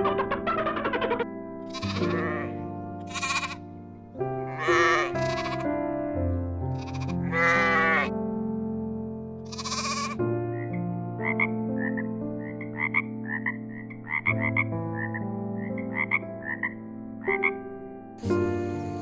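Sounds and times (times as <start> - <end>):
frogs croaking: 0.0 - 8.2, 9.4 - 19.0
soft music with sustained chords: 0.0 - 19.0.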